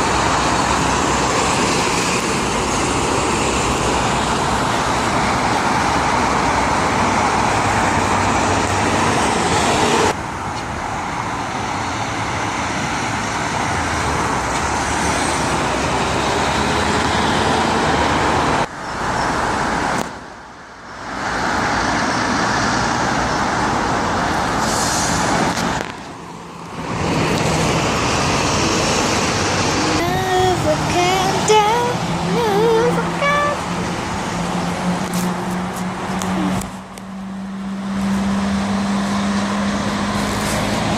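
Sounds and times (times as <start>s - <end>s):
road traffic passing: 0.0s - 40.9s.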